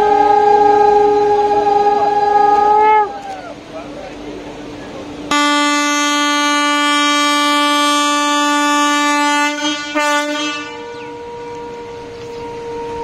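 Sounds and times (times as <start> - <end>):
locomotive air horn blast: 0.0 - 3.4, 5.3 - 13.0.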